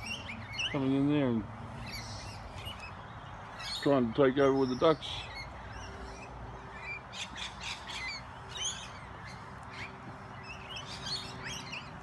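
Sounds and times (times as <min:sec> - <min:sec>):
parrots squawking and chattering: 0:00.0 - 0:03.9, 0:04.5 - 0:12.0.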